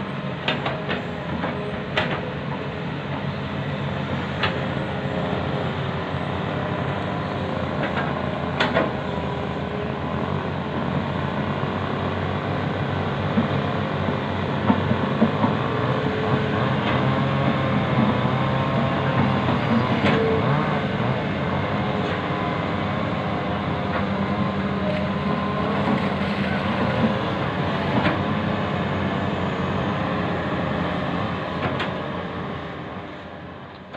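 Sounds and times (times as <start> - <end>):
excavator diesel engine under load: 0.0 - 33.9.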